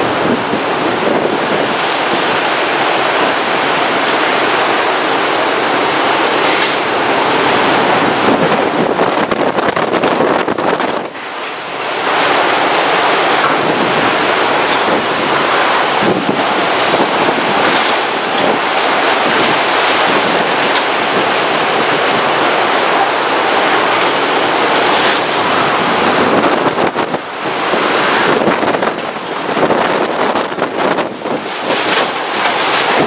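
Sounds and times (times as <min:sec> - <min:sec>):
storm wind gusting: 0:00.0 - 0:33.0.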